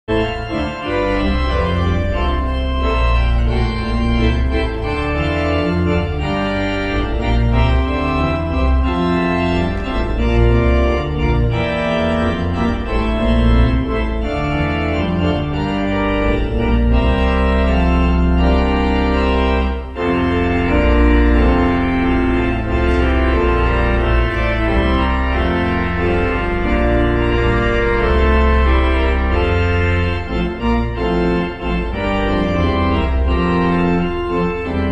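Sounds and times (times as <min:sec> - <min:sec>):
organ playing sustained chords: 0:00.1 - 0:34.9.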